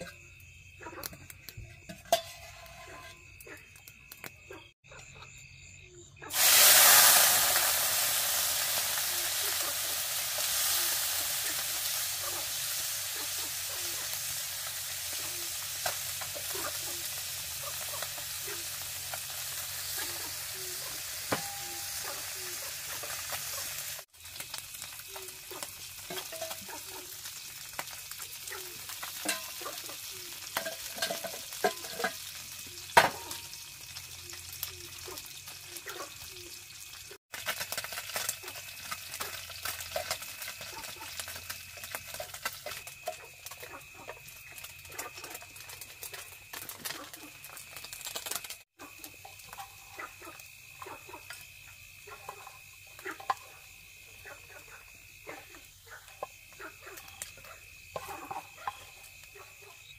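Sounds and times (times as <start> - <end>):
food sizzling in hot oil: 6.2 - 59.9.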